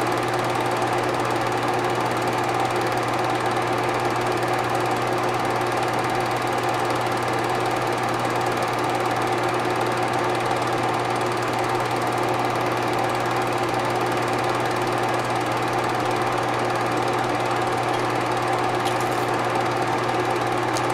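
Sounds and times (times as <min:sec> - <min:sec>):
film projector whirring and clattering: 0:00.0 - 0:20.9.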